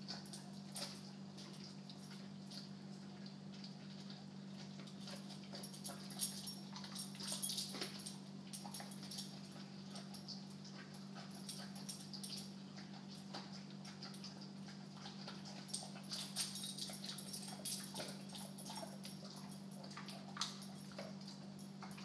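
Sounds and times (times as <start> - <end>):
dog mouth and throat noises: 0.0 - 22.0
low electrical hum: 0.0 - 22.0.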